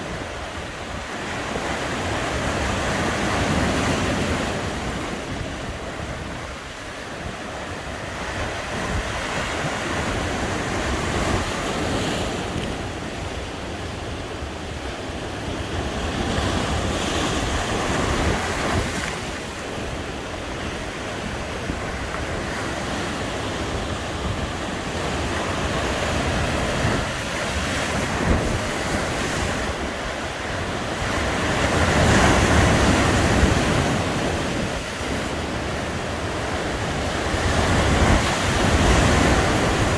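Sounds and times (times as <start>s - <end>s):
sea waves breaking on beach: 0.0s - 39.9s
wind buffeting microphone: 0.0s - 39.9s.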